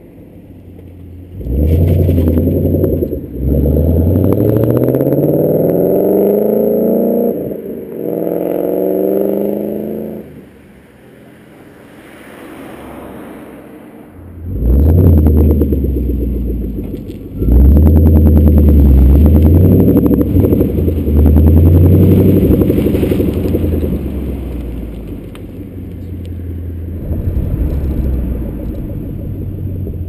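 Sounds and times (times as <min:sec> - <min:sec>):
car engine accelerating hard: 0:00.0 - 0:10.5, 0:14.3 - 0:30.0.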